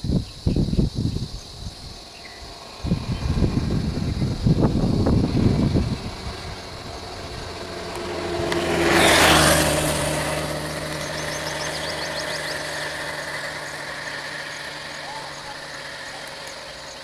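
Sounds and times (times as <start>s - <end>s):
rush of noise: 0.9s - 17.0s
vehicle engine idling: 1.3s - 17.0s.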